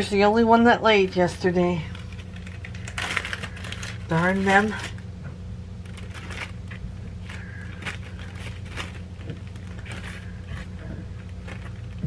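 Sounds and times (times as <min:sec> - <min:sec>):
steady low hum: 0:00.0 - 0:12.0
plastic bag crinkling: 0:01.0 - 0:12.0.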